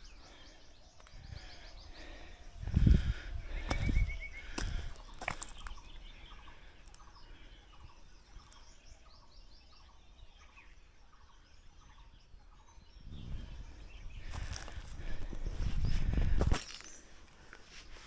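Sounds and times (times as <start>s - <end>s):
birds calling: 0.0s - 18.0s.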